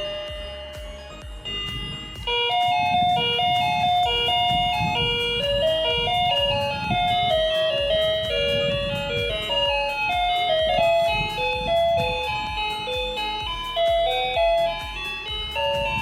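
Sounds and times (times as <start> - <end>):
background music with steady beat: 0.0 - 16.0
electronic doorbell chime melody: 0.0 - 16.0.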